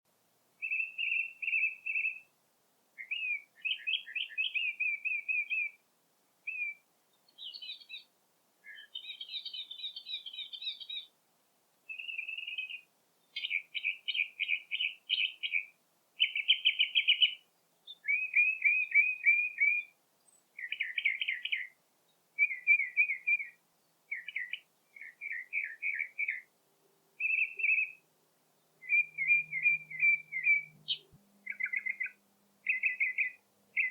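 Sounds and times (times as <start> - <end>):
songbird chirping: 0.2 - 33.9.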